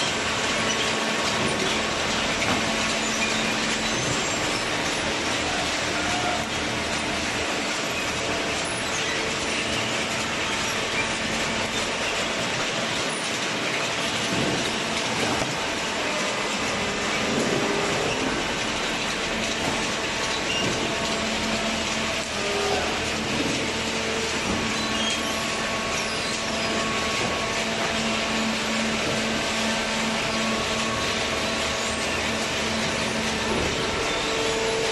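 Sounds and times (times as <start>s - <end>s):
cardboard shredder running: 0.0s - 34.9s.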